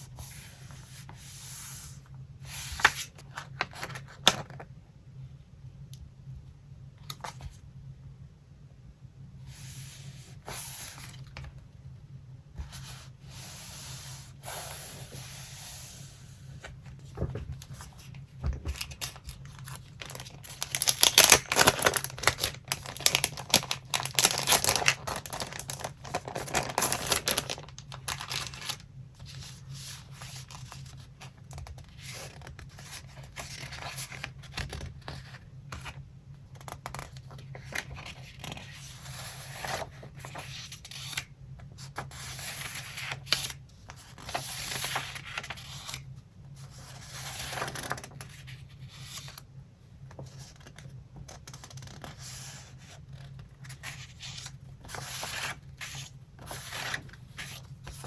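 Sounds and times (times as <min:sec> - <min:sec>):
paper crackling and rustling: 0:00.0 - 0:04.7, 0:12.6 - 0:49.4, 0:50.1 - 0:58.0.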